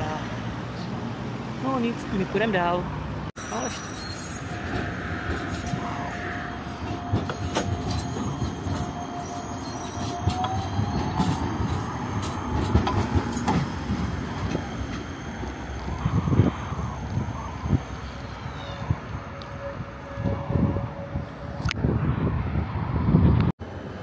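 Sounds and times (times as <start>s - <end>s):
tram motor whine: 2.9s - 24.0s.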